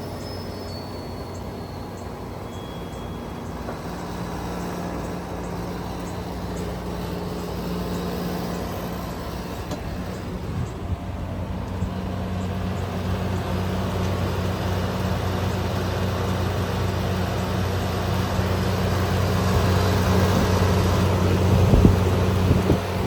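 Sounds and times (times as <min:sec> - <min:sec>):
heat pump humming: 0:00.0 - 0:23.0
rushing air and refrigerant: 0:00.0 - 0:23.0.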